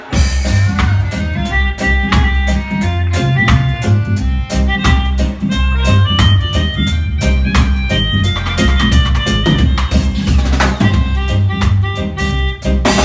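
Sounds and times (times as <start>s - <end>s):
drum kit hits: 0.0s - 13.0s
live band playing: 0.0s - 13.0s.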